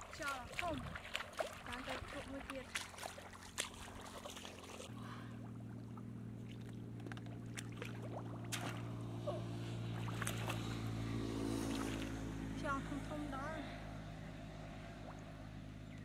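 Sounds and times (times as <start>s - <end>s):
water splashing: 0.0s - 13.4s, 14.5s - 15.9s
low engine drone: 0.0s - 16.0s.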